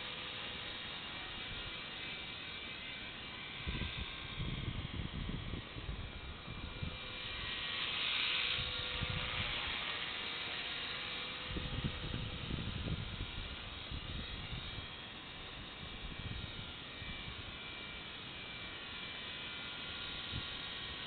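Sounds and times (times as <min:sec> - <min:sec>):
helicopter rotor whir: 0:00.0 - 0:21.0.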